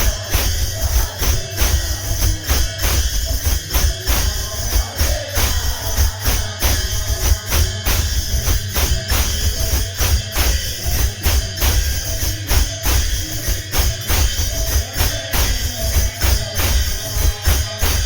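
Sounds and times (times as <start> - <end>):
drums: 0.0 - 18.0
jingling percussion: 0.0 - 18.0.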